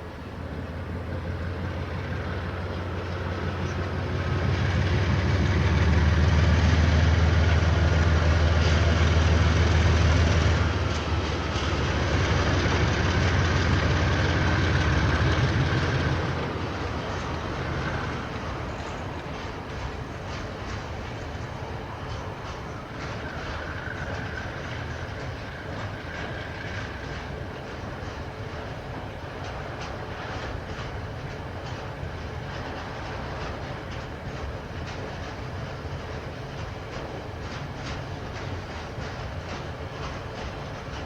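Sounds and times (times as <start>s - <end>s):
diesel train engine rumble: 0.0s - 41.0s.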